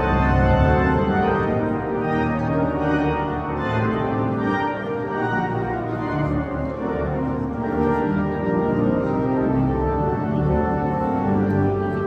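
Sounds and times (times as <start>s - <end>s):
pipe organ playing a hymn: 0.0s - 12.0s.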